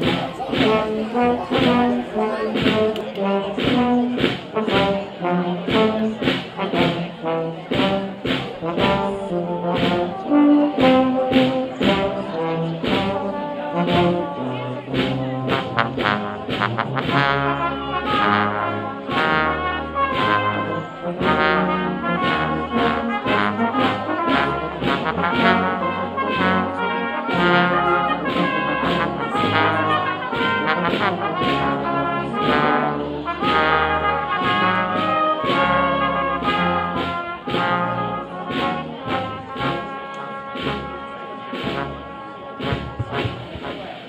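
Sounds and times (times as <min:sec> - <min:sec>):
brass band playing: 0:00.0 - 0:44.0
tuba bass line: 0:00.0 - 0:44.0.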